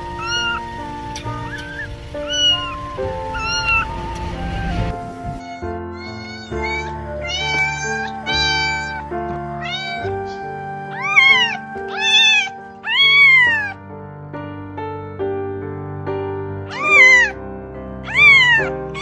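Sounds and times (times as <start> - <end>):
cat meowing: 0.0 - 13.8, 16.7 - 17.4, 18.0 - 19.0
background music with held notes: 0.0 - 19.0.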